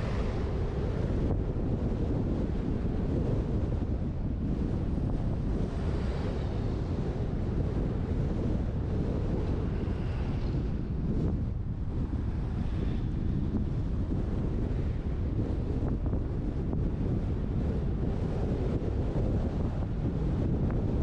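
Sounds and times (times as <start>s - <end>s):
wind buffeting on microphone: 0.0s - 21.0s.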